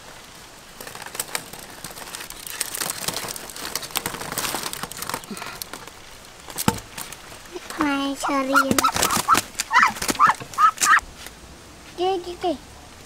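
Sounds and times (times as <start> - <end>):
rustling and crackling: 0.0 - 12.7.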